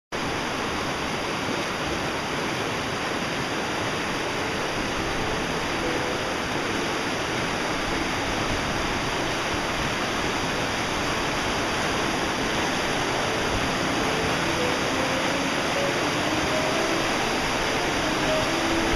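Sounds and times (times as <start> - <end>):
stream rushing over rocks: 0.2 - 18.9.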